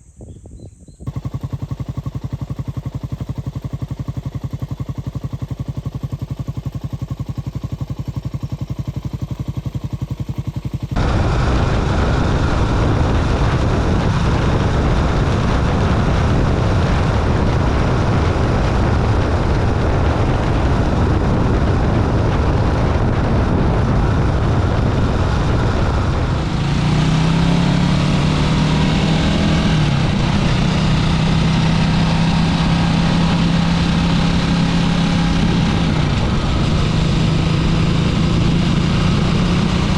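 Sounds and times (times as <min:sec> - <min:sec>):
motorcycle riding noise: 0:00.7 - 0:39.9.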